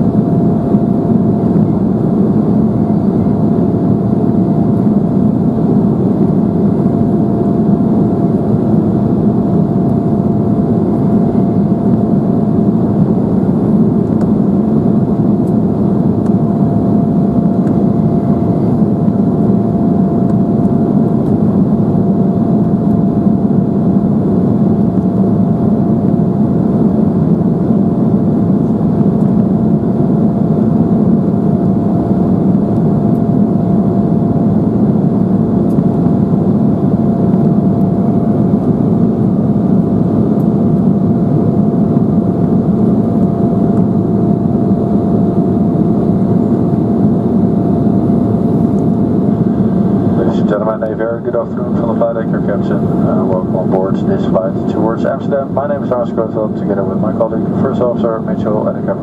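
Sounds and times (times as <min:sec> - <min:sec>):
airplane cabin roar: 0:00.0 - 0:59.0
steady engine whine: 0:00.0 - 0:59.0.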